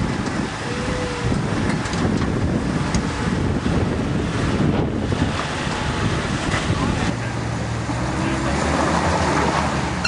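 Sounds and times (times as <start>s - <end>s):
wind buffeting microphone: 0.0s - 8.5s
off-road vehicle crawling over rocks: 0.0s - 10.0s.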